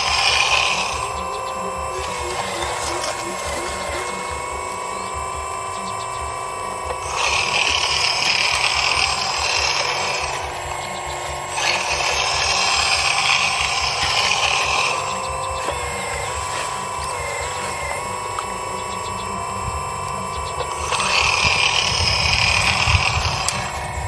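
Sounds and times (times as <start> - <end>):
hydraulic pump whine: 0.0 - 24.0
hydraulics hissing: 0.0 - 24.0.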